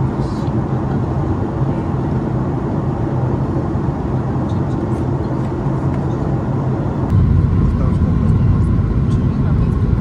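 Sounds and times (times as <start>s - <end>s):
airliner cabin noise: 0.0s - 10.0s.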